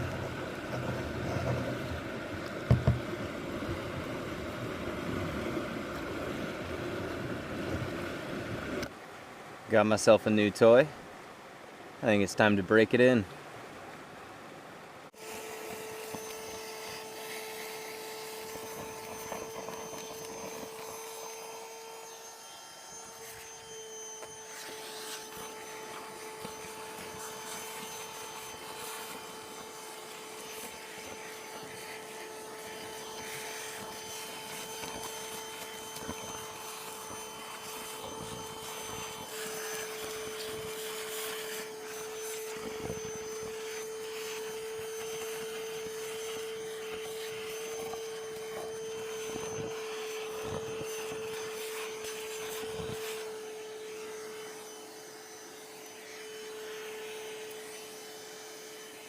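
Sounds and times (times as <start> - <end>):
shop vacuum running: 0.0 - 8.9, 15.1 - 59.0.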